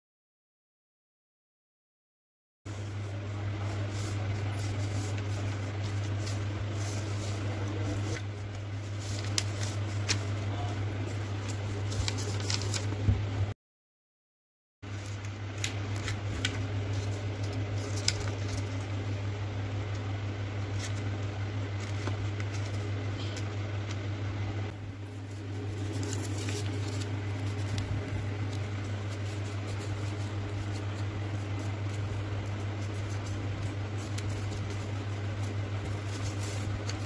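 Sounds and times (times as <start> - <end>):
paper folding and rustling: 2.7 - 13.3, 14.9 - 19.2, 19.9 - 24.0, 25.0 - 37.0
steady low hum: 2.7 - 13.6, 14.8 - 37.0.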